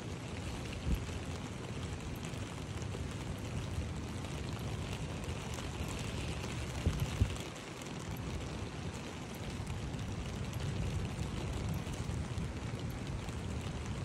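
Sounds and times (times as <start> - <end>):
rain on footbridge: 0.0 - 14.0.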